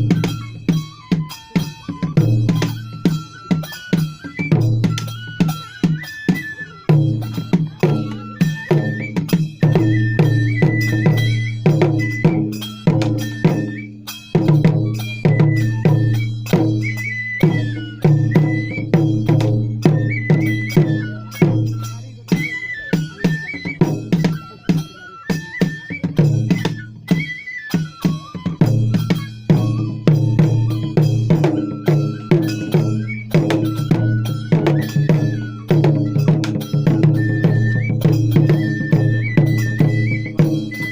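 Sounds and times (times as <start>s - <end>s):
high bamboo flute melody: 0.0s - 40.9s
taiko drums beating fast: 0.0s - 40.9s.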